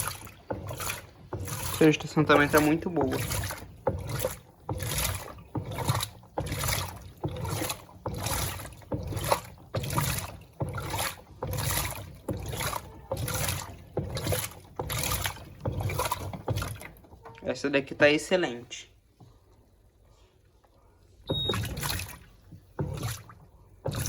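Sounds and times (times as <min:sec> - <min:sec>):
washing machine churning water: 0:00.0 - 0:24.0.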